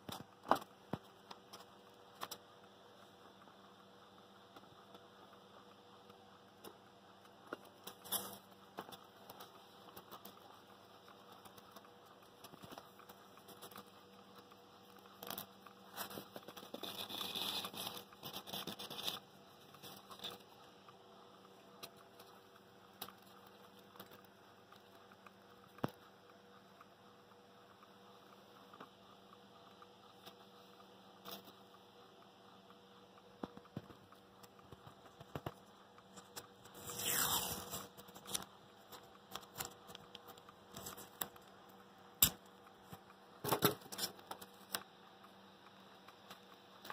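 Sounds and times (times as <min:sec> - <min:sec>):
small clicks and taps: 0:00.0 - 0:36.8, 0:37.9 - 0:46.9
faint steady hum: 0:00.0 - 0:46.9.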